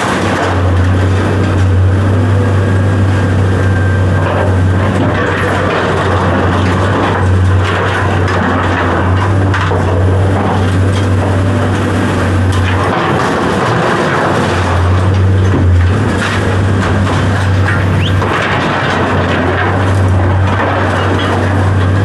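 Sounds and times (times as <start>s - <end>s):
large engine running: 0.0s - 22.0s.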